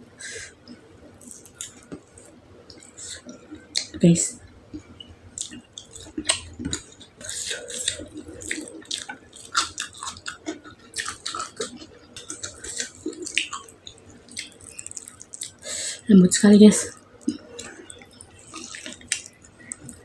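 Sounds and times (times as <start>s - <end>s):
chewing with mouth smacks: 0.7s - 4.0s, 4.6s - 15.6s, 16.9s - 20.0s.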